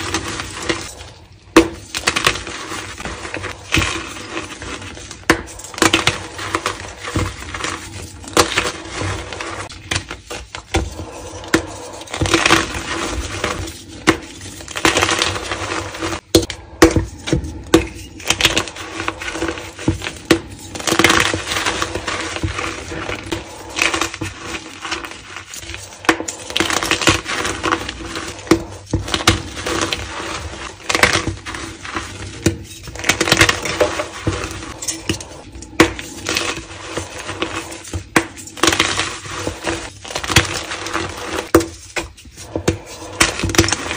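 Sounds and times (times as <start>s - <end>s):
chalk crushed by hands: 0.0s - 43.9s.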